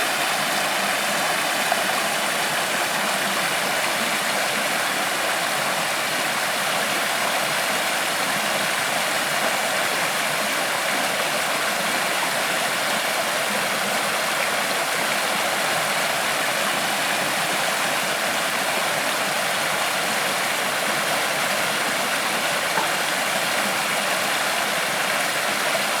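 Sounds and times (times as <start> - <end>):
creek water flowing over rocks: 0.0 - 26.0.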